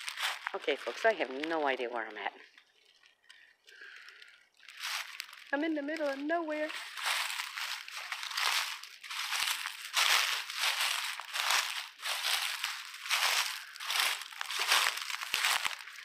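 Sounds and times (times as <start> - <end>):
footsteps crunching dry leaves: 0.0 - 3.2, 3.8 - 16.0.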